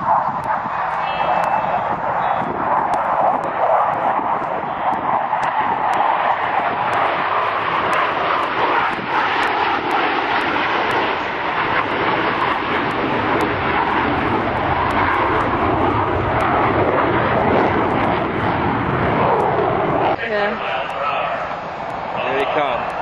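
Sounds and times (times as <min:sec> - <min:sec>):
fighter jets flying past: 0:00.0 - 0:23.0.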